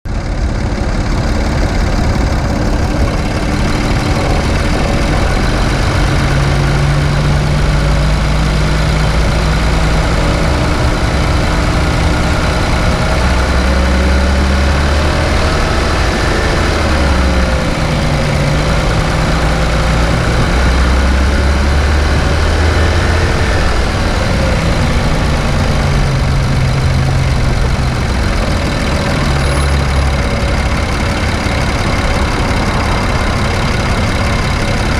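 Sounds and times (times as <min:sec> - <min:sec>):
road noise: 0:00.0 - 0:34.9
car engine revving: 0:00.1 - 0:34.9.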